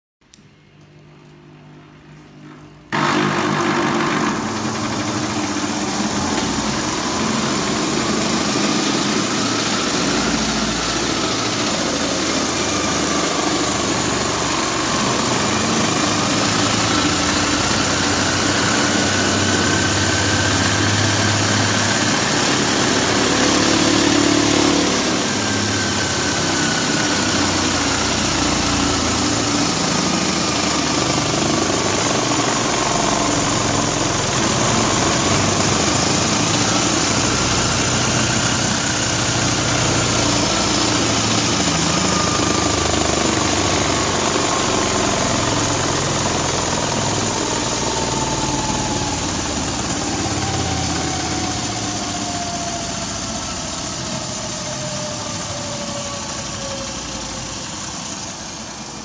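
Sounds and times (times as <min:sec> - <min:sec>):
electric motor humming with whine: 0:02.9 - 0:58.3.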